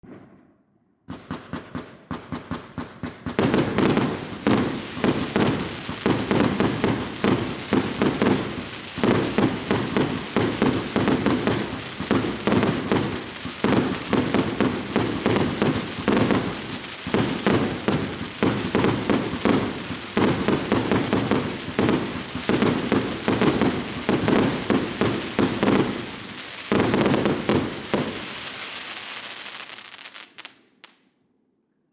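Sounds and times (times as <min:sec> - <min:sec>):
firework shots and bursts: 0:01.1 - 0:30.5
firework crackle: 0:03.4 - 0:31.0.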